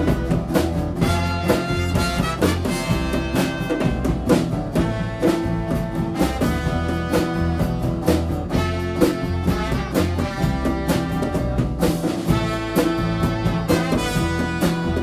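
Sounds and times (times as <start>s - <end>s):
horns holding chords: 0.0s - 15.0s
steady drum beat: 0.0s - 15.0s.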